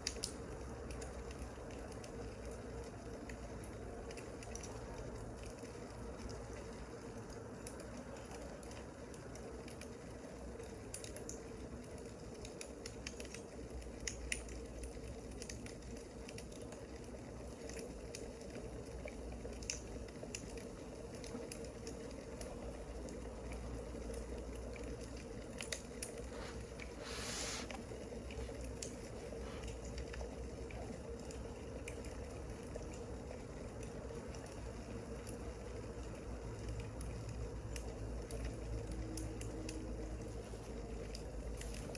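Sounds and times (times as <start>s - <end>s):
soft steady hiss: 0.0s - 41.9s
wood fire crackling and popping: 0.0s - 41.9s.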